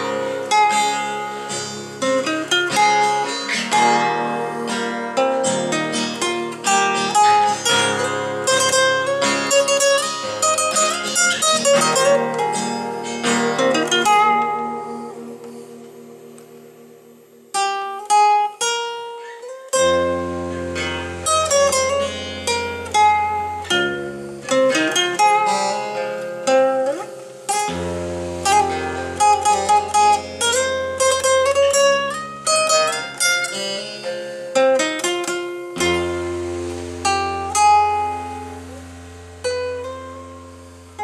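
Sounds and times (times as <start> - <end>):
held bass notes: 0.0 - 18.5, 19.7 - 41.0
plucked guitar-like melody: 0.0 - 41.0.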